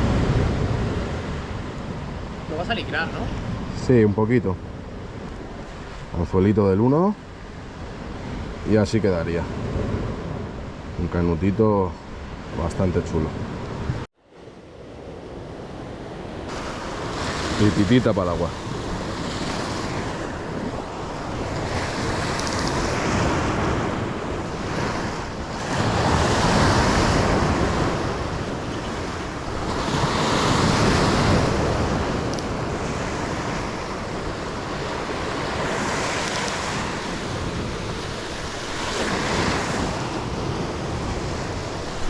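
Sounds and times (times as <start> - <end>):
sea waves breaking on shore: 0.0 - 42.0
wind buffeting microphone: 0.0 - 42.0.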